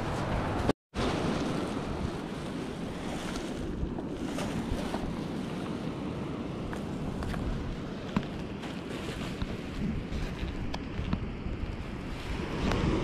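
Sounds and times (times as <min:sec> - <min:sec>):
surf washing along shore: 0:00.0 - 0:13.0
wind buffeting microphone: 0:00.0 - 0:13.0.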